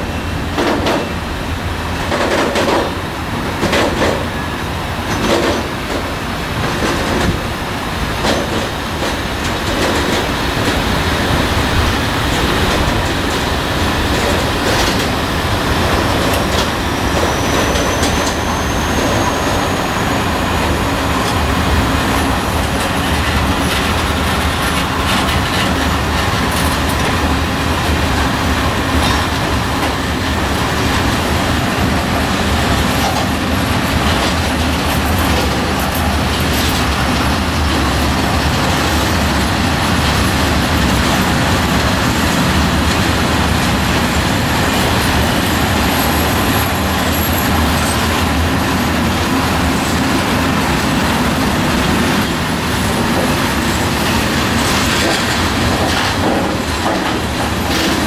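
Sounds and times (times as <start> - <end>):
freight train wheels rattling: 0.0 - 58.0.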